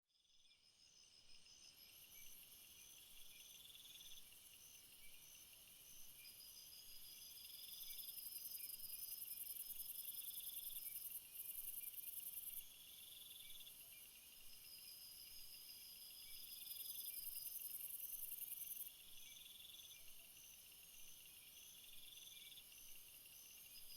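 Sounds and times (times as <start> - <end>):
insects chirping and trilling: 0.3 - 23.9.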